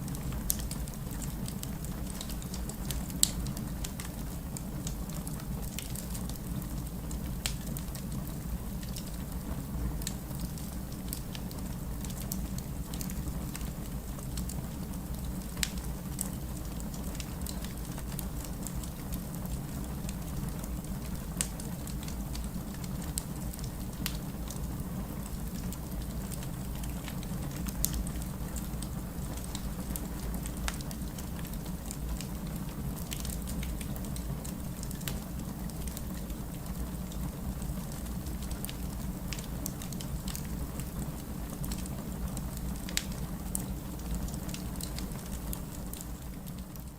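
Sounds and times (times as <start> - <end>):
campfire crackling and popping: 0.1 - 46.9.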